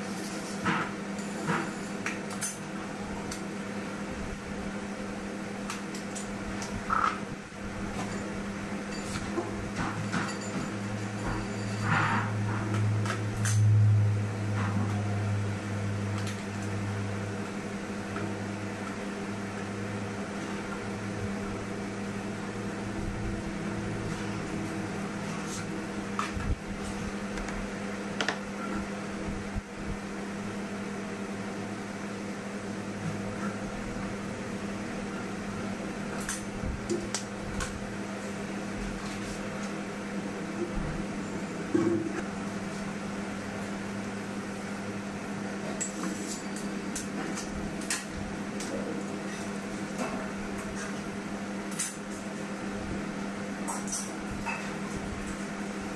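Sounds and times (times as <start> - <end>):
machine hum: 0.0 - 55.9.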